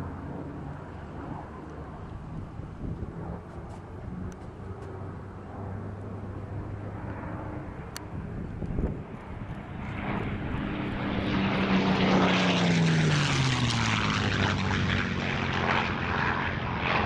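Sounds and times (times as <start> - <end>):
propeller aircraft engine flyby: 0.0 - 17.0.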